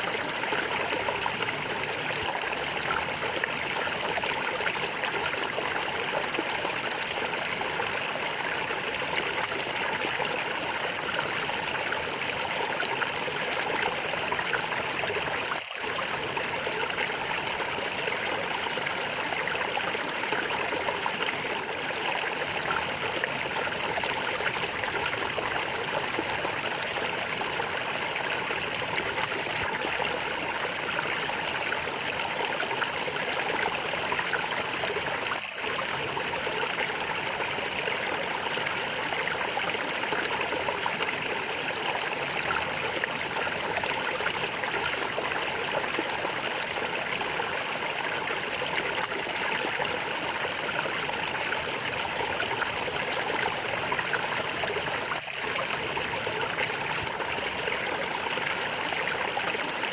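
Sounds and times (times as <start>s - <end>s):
water gurgling and flowing: 0.0s - 59.9s.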